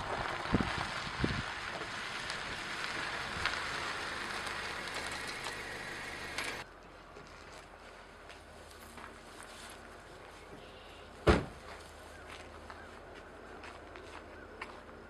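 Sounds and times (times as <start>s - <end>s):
tyres crunching on gravel: 0.0s - 15.0s.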